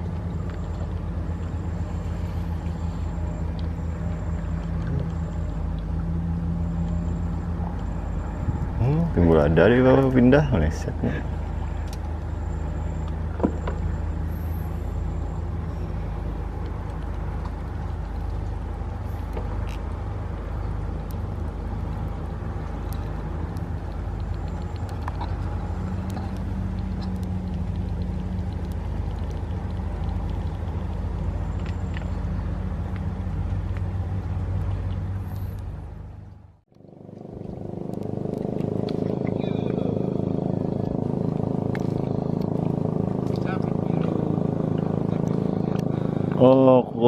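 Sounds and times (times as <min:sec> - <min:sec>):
motor engine humming: 0:00.0 - 0:47.0.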